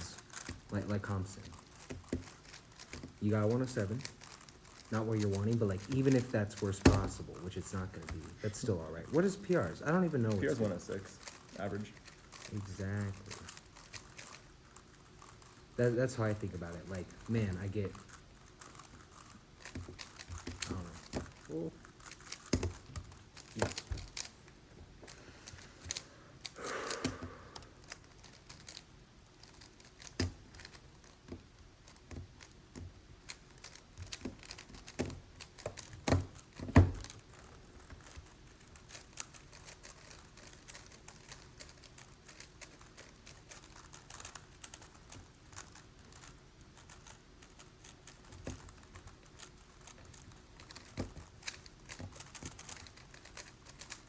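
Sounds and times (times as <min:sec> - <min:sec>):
plastic puzzle clicking: 0:00.0 - 0:54.0.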